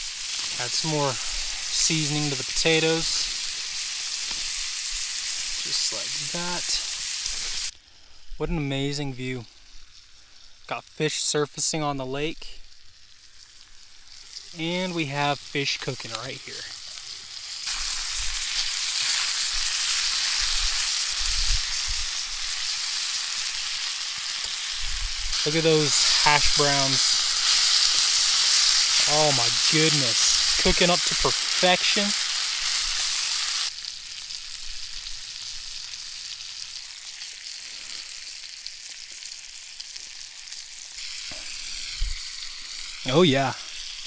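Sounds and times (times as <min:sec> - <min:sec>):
butter sizzling in a skillet: 0:00.0 - 0:44.0.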